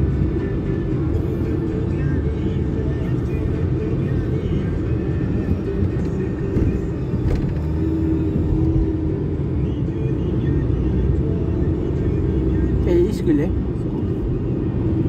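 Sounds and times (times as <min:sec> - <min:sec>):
car cabin road noise: 0:00.0 - 0:15.0.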